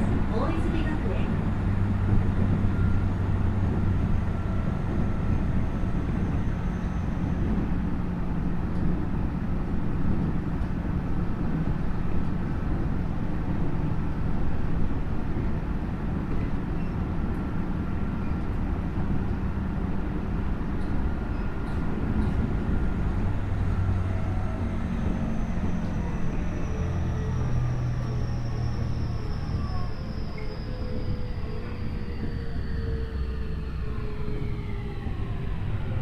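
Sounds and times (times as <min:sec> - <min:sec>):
train rolling noise: 0:00.0 - 0:36.0.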